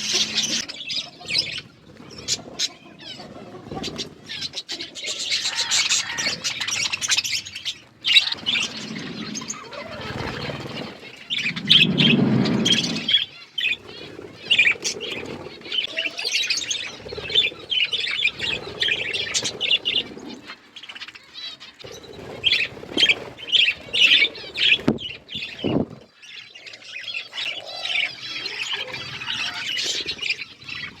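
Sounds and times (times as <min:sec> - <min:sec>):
budgerigars chirping: 0:00.0 - 0:31.0.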